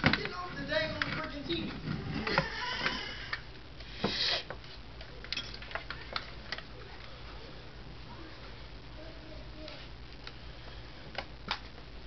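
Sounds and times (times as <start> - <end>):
cables being handled: 0.0 - 7.7, 9.6 - 12.0
low steady hum: 0.0 - 12.0.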